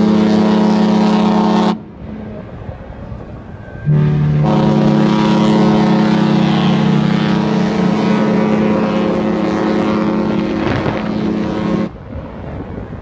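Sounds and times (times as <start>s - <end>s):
ship's horn long low blast: 0.0s - 2.5s, 3.1s - 12.4s.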